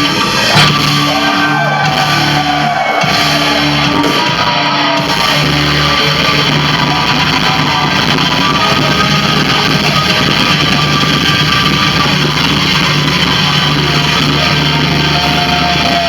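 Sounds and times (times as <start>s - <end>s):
electric guitar: 0.0s - 16.0s
live rock band playing: 0.0s - 16.0s.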